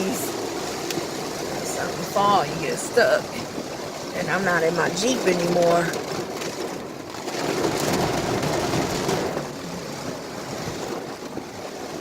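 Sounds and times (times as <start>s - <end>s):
rain on car: 0.0s - 12.0s.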